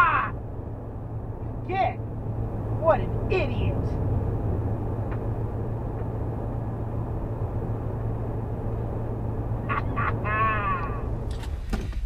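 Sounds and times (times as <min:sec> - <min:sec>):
road and engine drone: 0:00.0 - 0:12.0.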